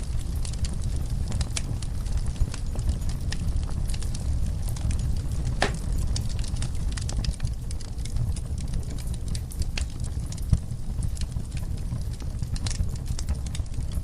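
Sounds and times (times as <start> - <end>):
fire pops and snaps: 0.0 - 14.0
low rumble of flames: 0.0 - 14.0.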